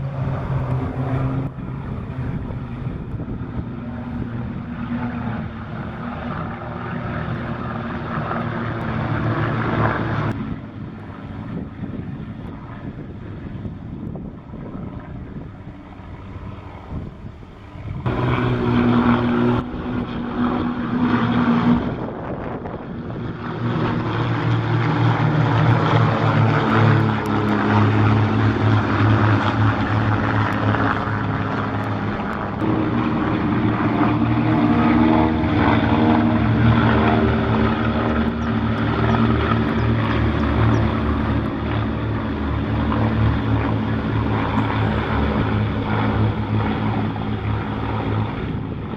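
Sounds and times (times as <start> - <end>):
propeller planes droning past: 0.0 - 48.9.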